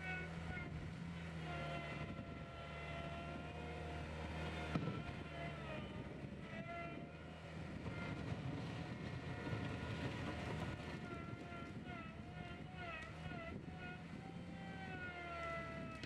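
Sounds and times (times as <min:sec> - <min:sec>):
loader engine humming: 0:00.0 - 0:16.0.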